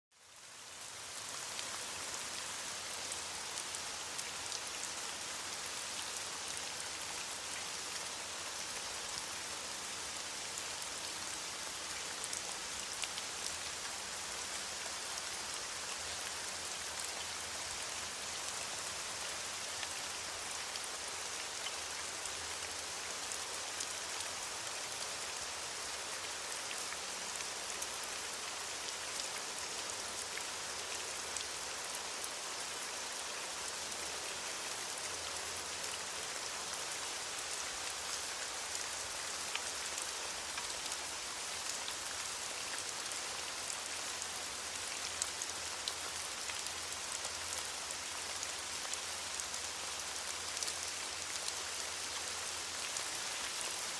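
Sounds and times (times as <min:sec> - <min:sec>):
rain falling on leaves: 0:00.1 - 0:53.9.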